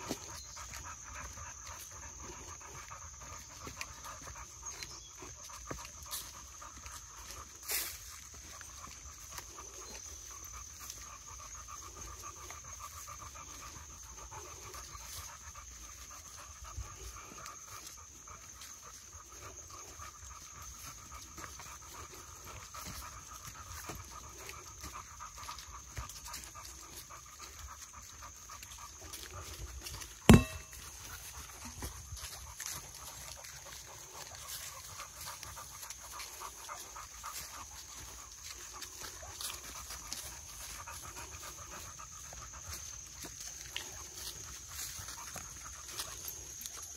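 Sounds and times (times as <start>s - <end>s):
dogs panting: 0.0s - 46.9s.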